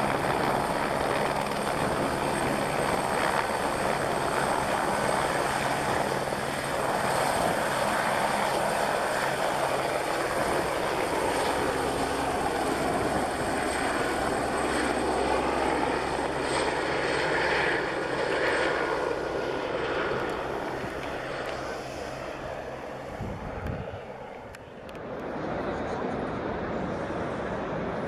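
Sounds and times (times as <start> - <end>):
helicopter running: 0.0 - 28.0.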